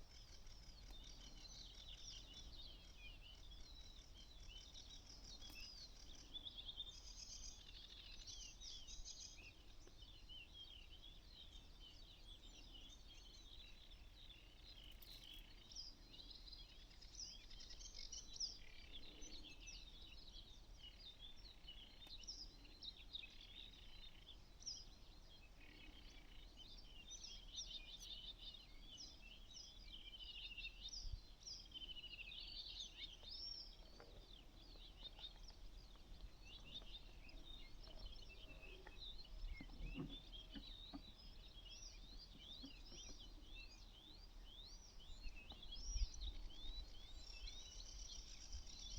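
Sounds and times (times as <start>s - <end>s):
songbirds chirping and singing: 0.0s - 48.9s.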